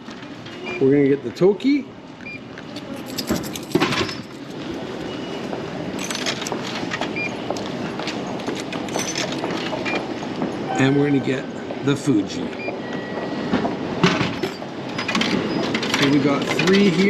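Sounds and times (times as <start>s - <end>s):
train rumbling: 2.8s - 17.0s.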